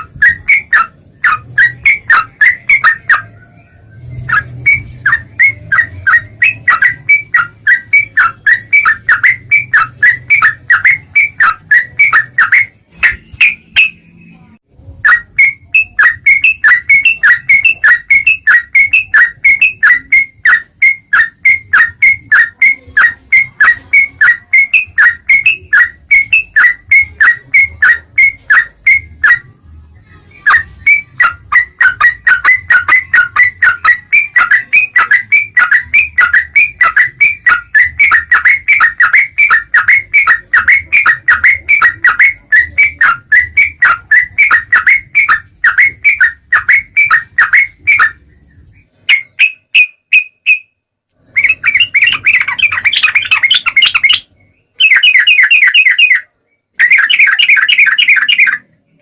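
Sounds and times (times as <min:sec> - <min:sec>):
bird chirping rapidly: 0:00.0 - 0:29.5, 0:30.1 - 0:59.0.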